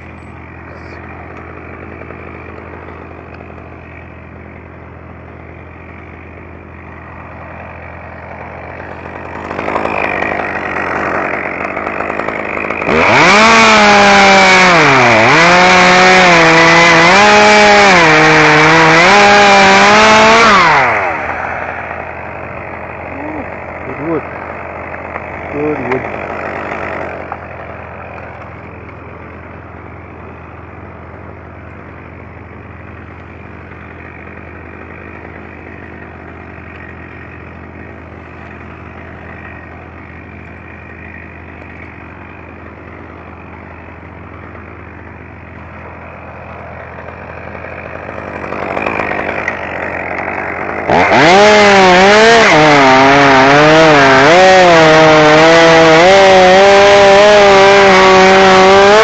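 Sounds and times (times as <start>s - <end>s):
chainsaw cutting into wood: 0.0s - 59.0s
chainsaw idling and revving: 0.0s - 59.0s.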